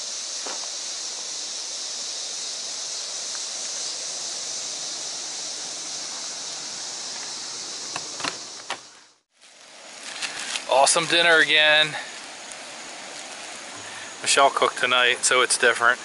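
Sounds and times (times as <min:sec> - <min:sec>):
insect chorus hissing: 0:00.0 - 0:16.0.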